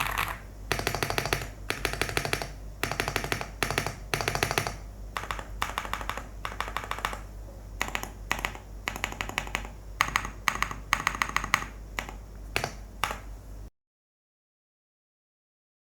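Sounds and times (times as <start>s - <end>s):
mechanical keyboard typing: 0.0s - 13.3s.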